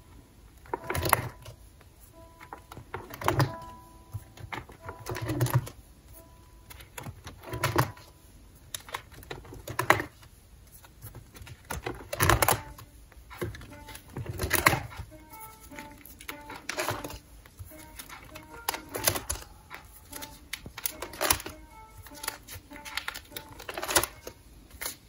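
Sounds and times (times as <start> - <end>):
plastic binder pages turning: 0.6 - 25.0.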